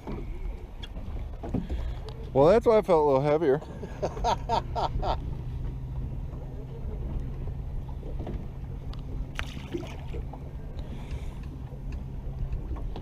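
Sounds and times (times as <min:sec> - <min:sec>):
boat motor humming: 0:00.0 - 0:13.0
water noise: 0:00.0 - 0:13.0.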